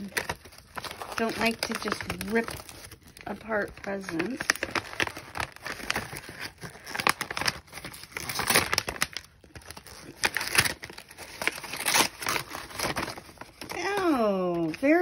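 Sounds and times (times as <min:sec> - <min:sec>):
paper tearing: 0:00.0 - 0:15.0
wrapping paper crinkling: 0:00.0 - 0:15.0.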